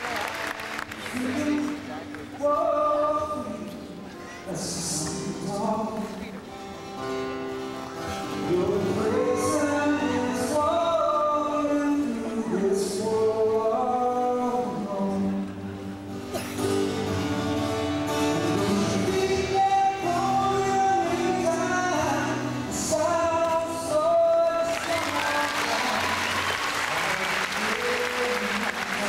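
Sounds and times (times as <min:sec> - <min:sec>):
guitar: 0:00.0 - 0:29.0
person singing: 0:01.0 - 0:06.4, 0:08.1 - 0:15.9, 0:18.1 - 0:29.0.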